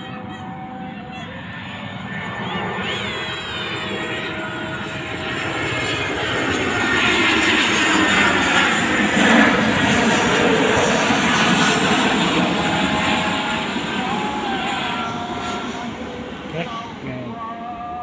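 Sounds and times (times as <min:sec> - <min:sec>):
airliner jet engines overhead: 0:00.0 - 0:18.0.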